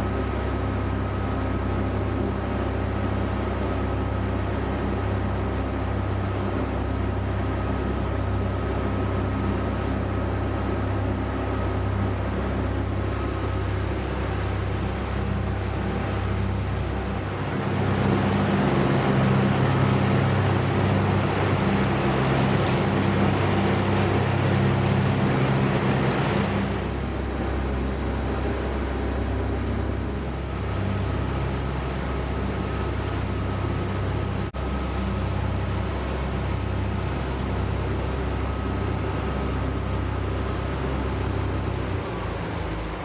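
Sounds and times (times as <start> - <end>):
diesel engines droning: 0.0 - 43.0
rushing water: 0.0 - 43.0.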